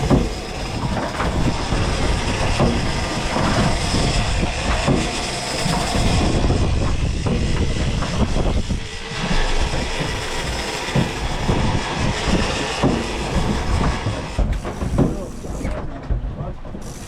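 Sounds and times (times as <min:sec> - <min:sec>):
boat rumbling: 0:00.0 - 0:17.0
low buffeting: 0:00.0 - 0:17.0.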